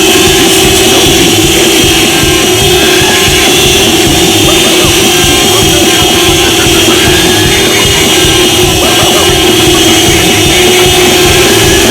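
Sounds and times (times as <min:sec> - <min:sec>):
many car horns sounding: 0:00.0 - 0:11.9
music: 0:00.0 - 0:11.9.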